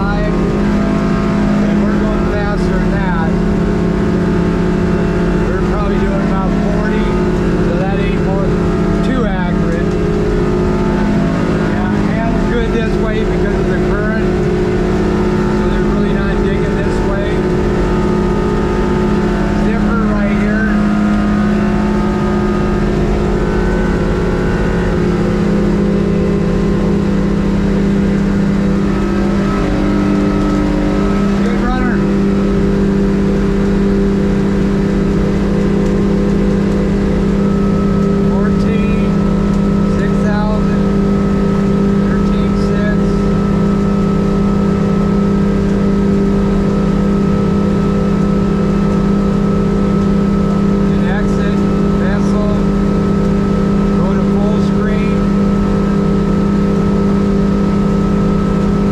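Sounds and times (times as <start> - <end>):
outboard motor running: 0.0 - 58.9.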